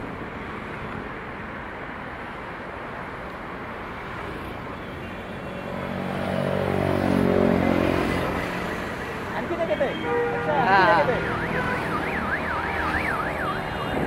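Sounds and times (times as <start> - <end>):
highway traffic noise: 0.0 - 14.0.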